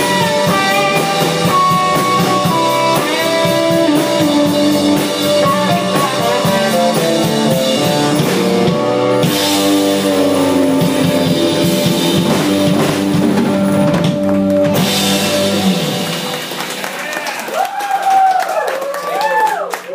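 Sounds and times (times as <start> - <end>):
live rock band playing: 0.0 - 17.5.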